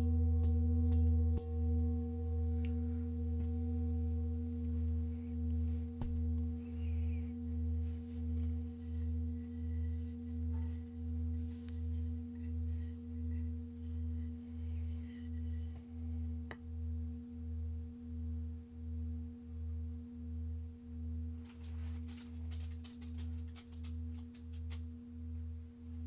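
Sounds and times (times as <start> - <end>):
ringing meditation tones: 0.0 - 22.4.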